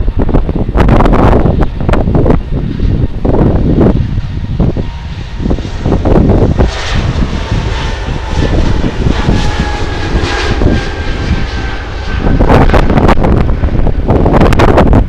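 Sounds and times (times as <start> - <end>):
jet engines at takeoff power: 0.0 - 15.0
wind buffeting microphone: 0.0 - 15.0.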